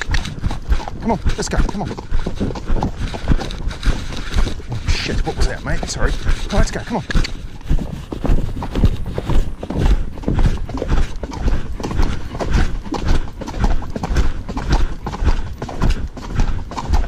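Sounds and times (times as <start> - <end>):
horse hooves on dirt track: 0.0 - 17.0.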